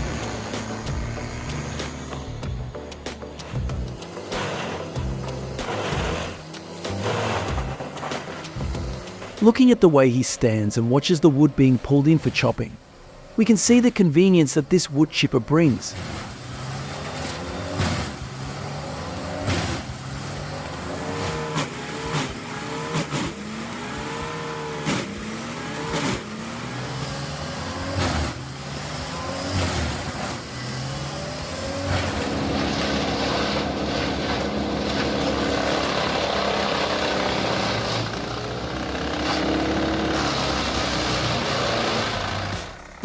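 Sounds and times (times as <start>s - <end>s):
wood chipper engine: 0.0s - 43.0s.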